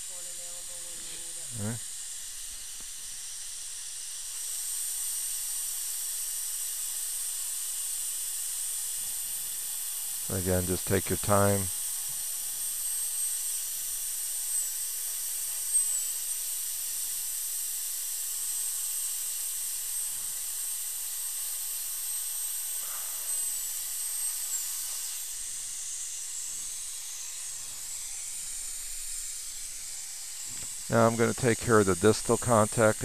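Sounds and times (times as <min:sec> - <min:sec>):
steady hiss: 0:00.0 - 0:03.6, 0:04.2 - 0:33.0
dental drill whine: 0:00.0 - 0:33.0.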